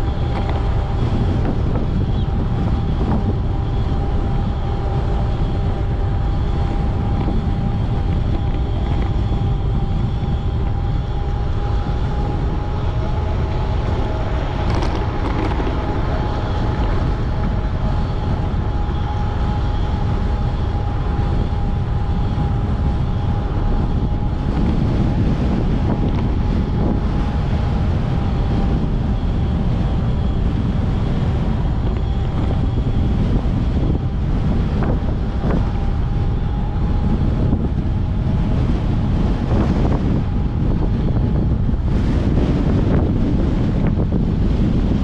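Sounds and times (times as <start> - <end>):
electric motor whine: 0.0 - 45.0
wind rushing over microphone: 0.0 - 45.0.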